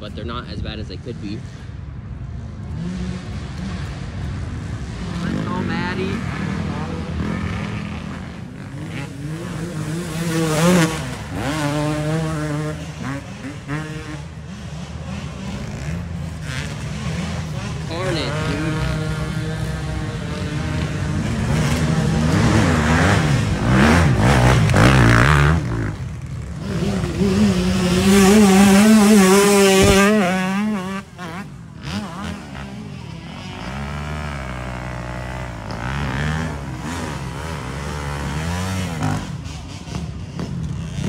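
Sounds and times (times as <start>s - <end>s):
dirt bike engines revving: 0.0s - 41.0s.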